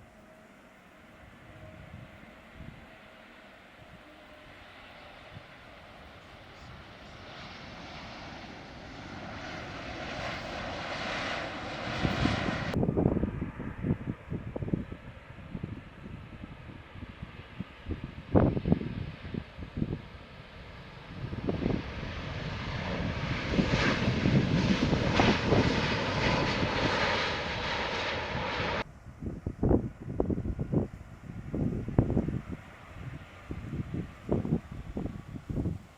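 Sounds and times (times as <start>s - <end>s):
airliner engines approaching: 0.0s - 35.9s
wind gusts on microphone: 1.2s - 3.1s, 3.8s - 35.9s.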